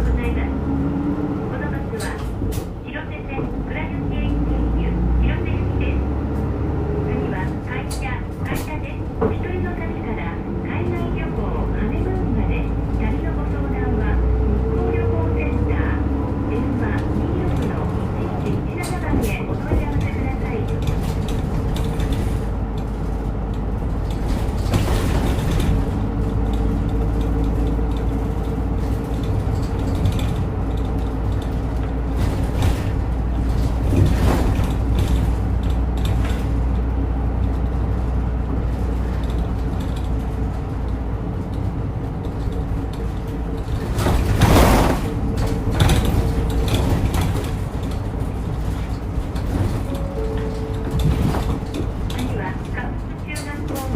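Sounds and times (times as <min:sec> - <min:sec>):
bus engine and road noise: 0:00.0 - 0:53.9.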